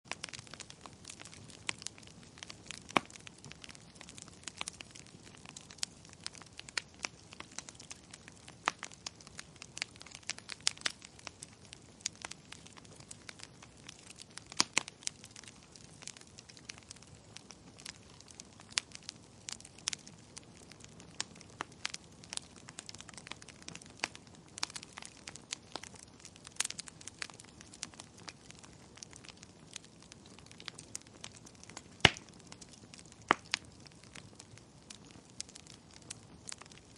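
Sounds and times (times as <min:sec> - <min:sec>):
wood fire crackling and popping: 0:00.1 - 0:36.9.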